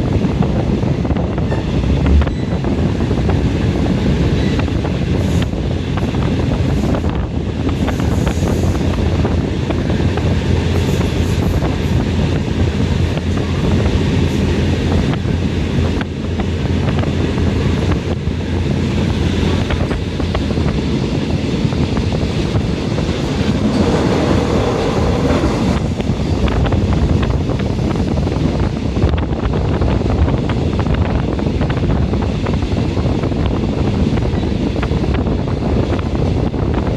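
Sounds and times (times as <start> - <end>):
train rumble and wheel clatter: 0.0 - 36.9.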